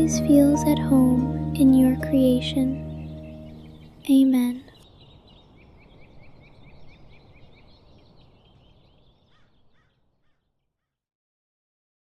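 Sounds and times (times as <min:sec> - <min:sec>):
birds chirping: 0:00.0 - 0:10.5.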